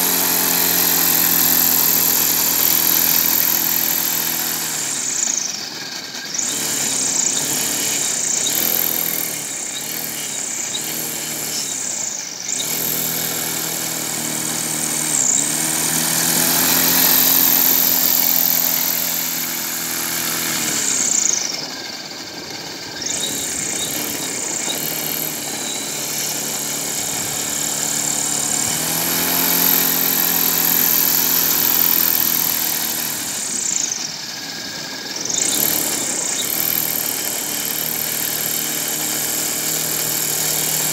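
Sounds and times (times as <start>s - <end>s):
electric propeller motor whirring: 0.0s - 40.9s.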